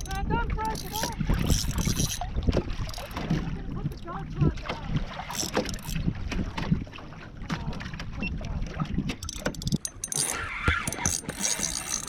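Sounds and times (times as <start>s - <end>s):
wind rumble on microphone: 0.0s - 9.8s
water sloshing against hull: 0.0s - 12.0s.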